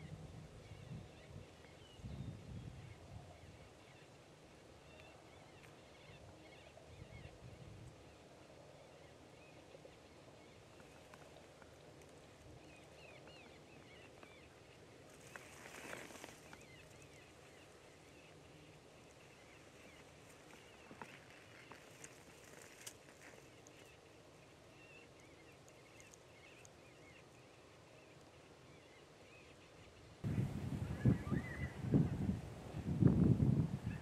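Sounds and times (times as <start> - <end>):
faint bird chirps: 0.0 - 32.2.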